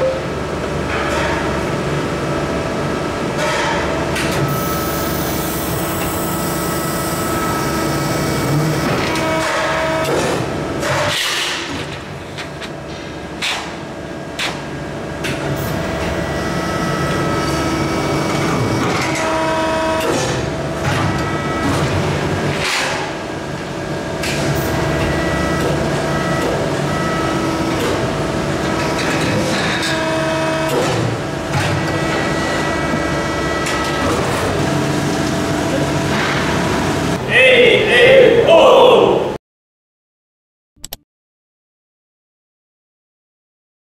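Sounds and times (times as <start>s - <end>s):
hydraulic press running: 0.0s - 37.3s.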